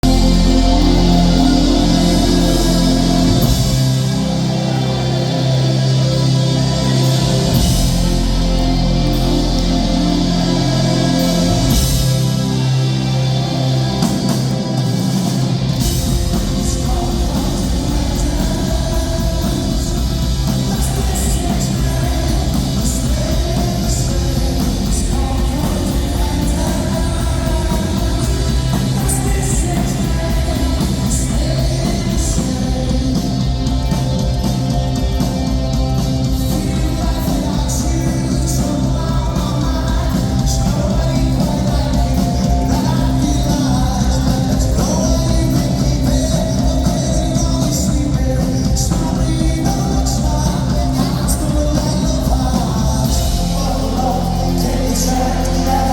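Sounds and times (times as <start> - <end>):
person singing: 0.0 - 55.9
rock band playing live: 0.0 - 55.9.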